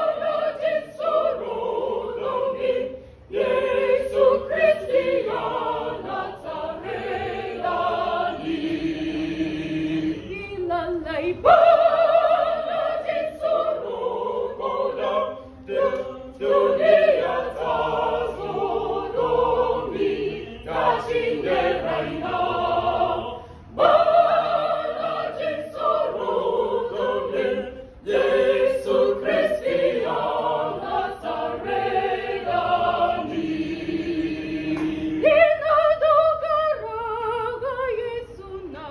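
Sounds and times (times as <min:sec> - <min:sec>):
youth choir singing unaccompanied: 0:00.0 - 0:38.9.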